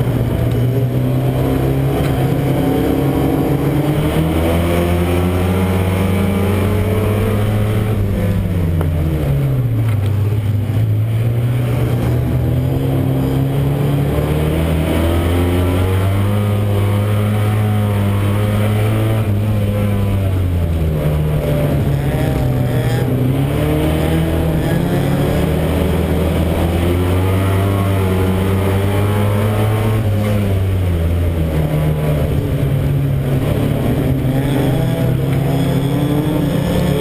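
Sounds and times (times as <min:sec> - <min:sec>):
racing car engine revving: 0:00.0 - 0:37.0.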